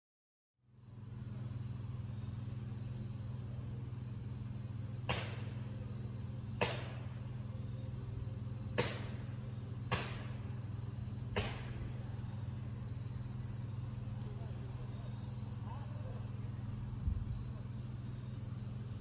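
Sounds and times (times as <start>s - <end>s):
steady low hum: 0.6s - 19.0s
insects trilling: 0.7s - 19.0s.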